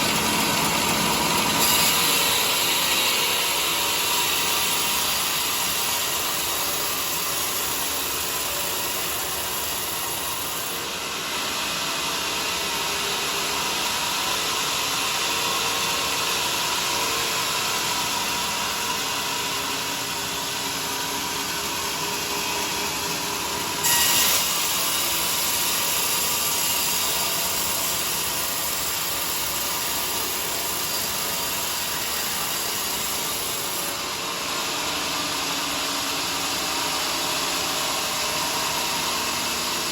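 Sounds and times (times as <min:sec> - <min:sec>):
bandsaw cutting a log: 0:00.0 - 0:13.1, 0:17.1 - 0:39.9.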